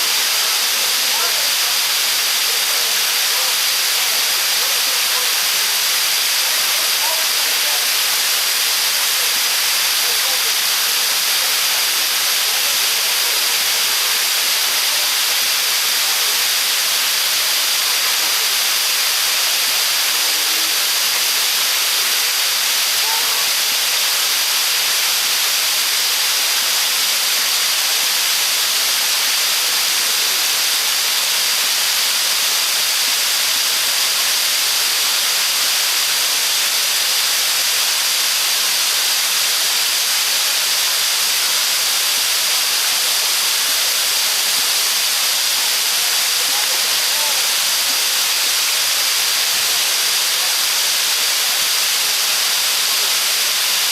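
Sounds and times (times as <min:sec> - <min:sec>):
water rushing over a dam: 0:00.0 - 0:53.9.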